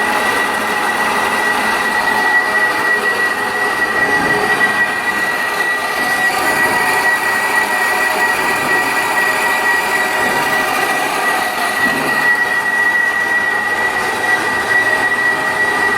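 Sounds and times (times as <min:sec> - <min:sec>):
boring machine high-pitched whine: 0:00.0 - 0:15.9.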